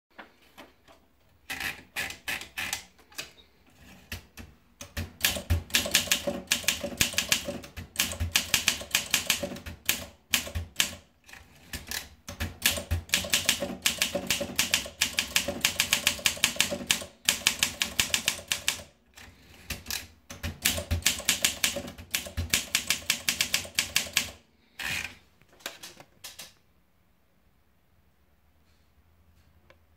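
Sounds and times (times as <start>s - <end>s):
manual typewriter typing: 1.4s - 26.6s
paper feeding clicks: 1.5s - 26.6s.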